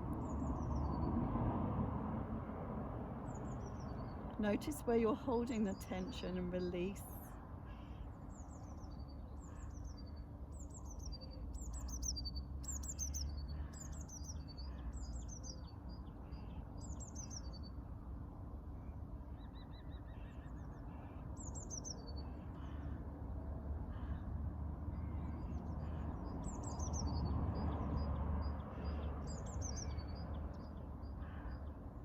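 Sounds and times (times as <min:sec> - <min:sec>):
songbirds chirping: 0:03.2 - 0:32.0.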